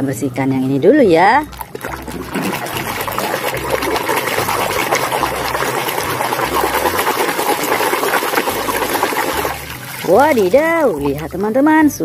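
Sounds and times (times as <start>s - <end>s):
water running and splashing: 1.4s - 12.0s
scrubbing noise: 1.5s - 11.3s.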